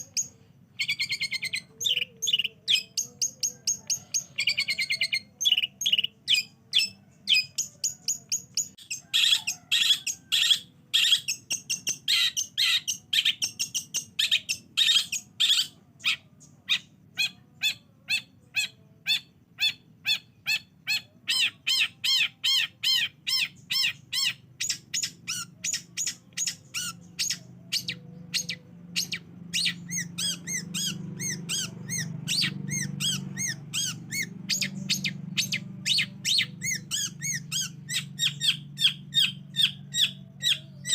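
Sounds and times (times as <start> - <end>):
bird song with sharp chirps: 0.0 - 40.9
faint low hum: 0.0 - 40.9.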